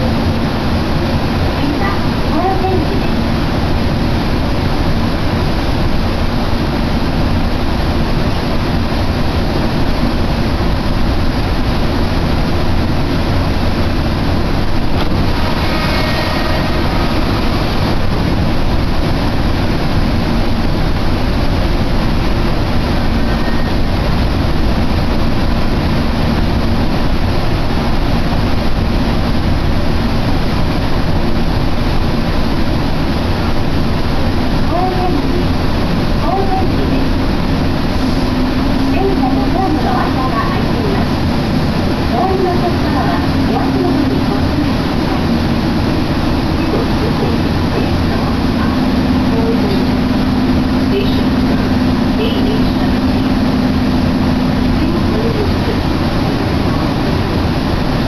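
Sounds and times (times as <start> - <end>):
faint whine: 0.0 - 58.0
train rumble inside carriage: 0.0 - 58.0.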